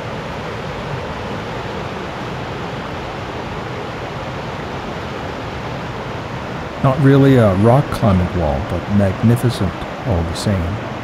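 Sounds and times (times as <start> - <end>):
creek rushing over rocks: 0.8 - 11.0.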